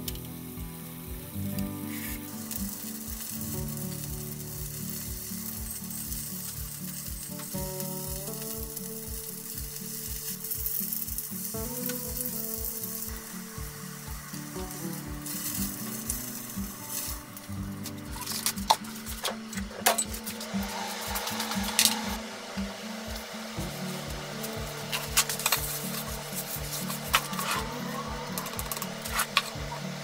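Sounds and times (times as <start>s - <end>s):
background music with steady beat: 0.0s - 30.0s
mushrooms sizzling in hot oil: 0.0s - 30.0s.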